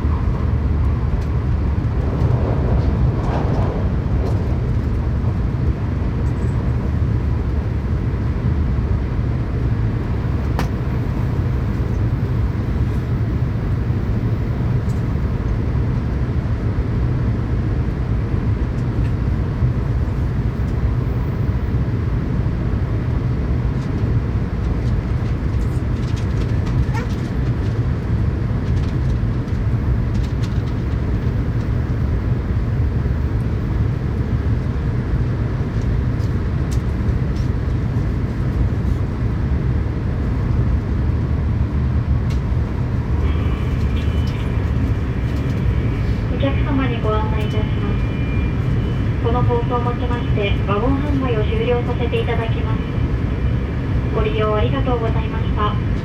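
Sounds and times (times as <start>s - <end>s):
train running noise from inside: 0.0s - 56.0s.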